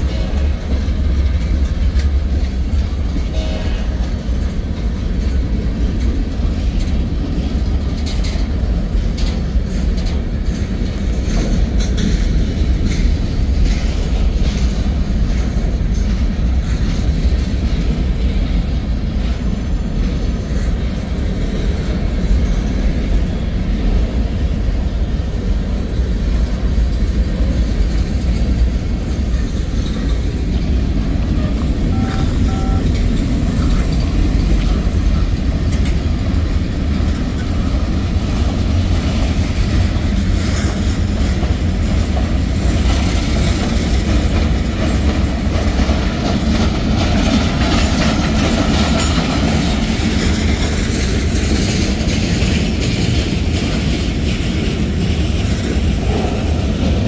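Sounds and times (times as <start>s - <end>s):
train cars rolling past: 0.0s - 57.0s
wheels and couplers clacking: 0.0s - 57.0s.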